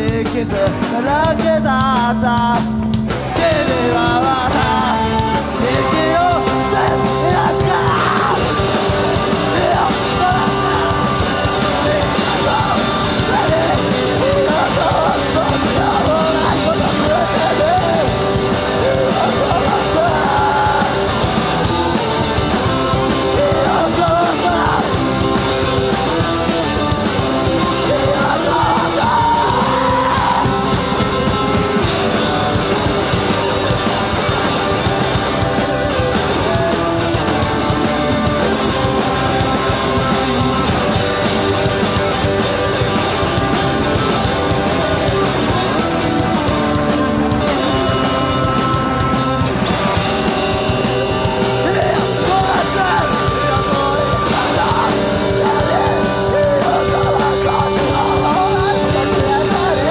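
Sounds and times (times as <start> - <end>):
bass guitar: 0.0 - 59.9
drum kit: 0.0 - 59.9
electric guitars: 0.0 - 59.9
lead vocal singing: 0.0 - 59.9.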